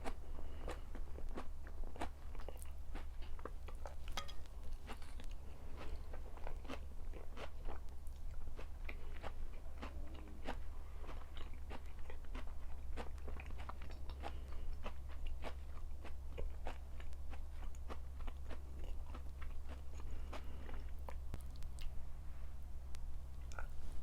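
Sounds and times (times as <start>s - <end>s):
person chewing crunchy food: 0.0s - 22.0s, 23.4s - 24.0s
low steady hum: 0.0s - 24.0s.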